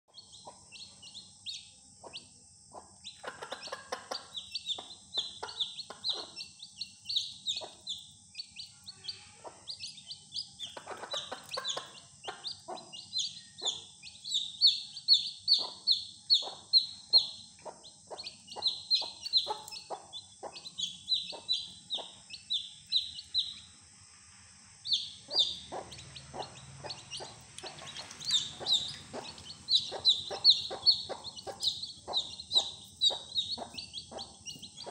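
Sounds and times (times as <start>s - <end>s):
chicks peeping: 0.1s - 23.7s, 24.8s - 34.9s.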